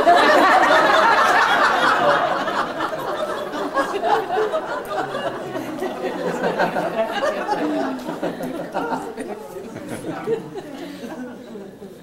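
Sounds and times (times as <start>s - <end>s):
audience laughing: 0.0s - 11.7s
chatter: 0.0s - 12.0s.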